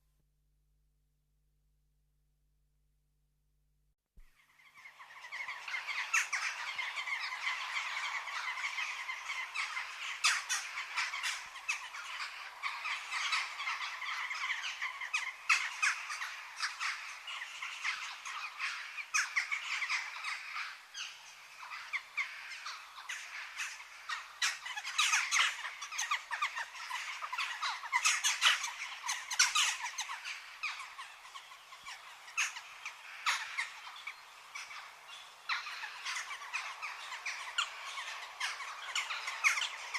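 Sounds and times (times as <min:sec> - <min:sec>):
birds chirping and squawking: 0:04.5 - 0:39.9.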